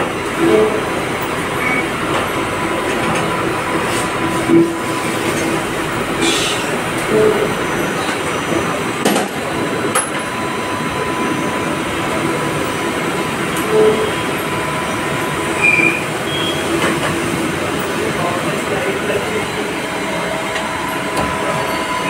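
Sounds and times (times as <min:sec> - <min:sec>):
machinery hum and whine: 0:00.0 - 0:22.0.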